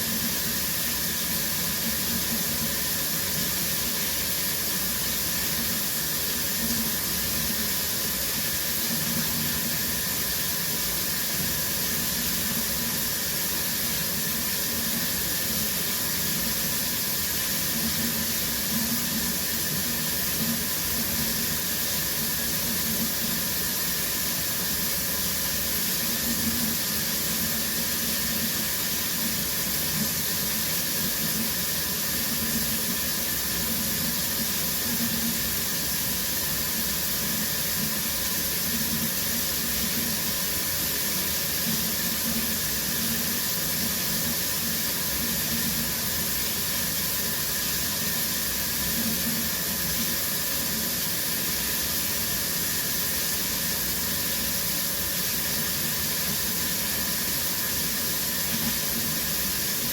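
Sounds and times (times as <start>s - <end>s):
shower spray hissing: 0.0s - 59.9s.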